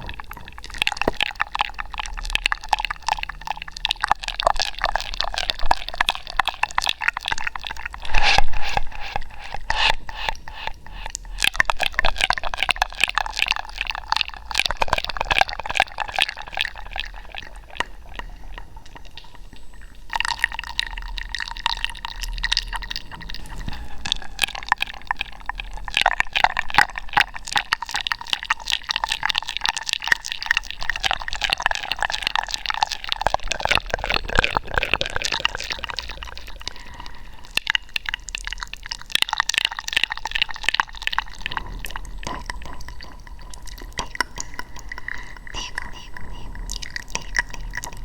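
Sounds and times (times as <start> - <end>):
wet mouth clicking and smacking: 0.0 - 48.0.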